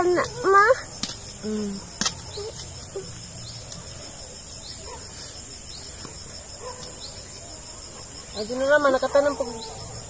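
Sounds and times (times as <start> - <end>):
high insect drone: 0.0 - 10.0
faint bird chirps: 1.4 - 10.0.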